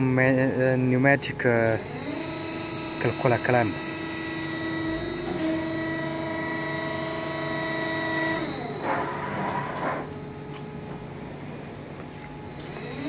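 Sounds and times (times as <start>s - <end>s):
electric drives whining: 0.0s - 13.0s
steady low hum: 0.0s - 13.0s.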